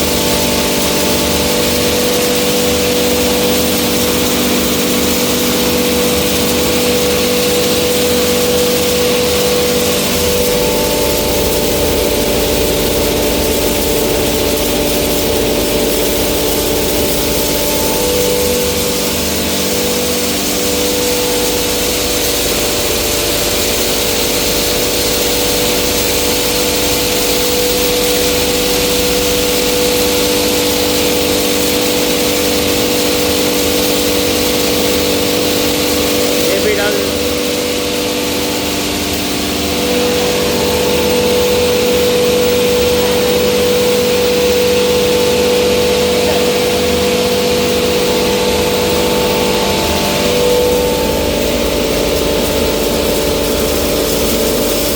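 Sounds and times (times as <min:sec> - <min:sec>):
grinding mill humming: 0:00.0 - 0:54.9.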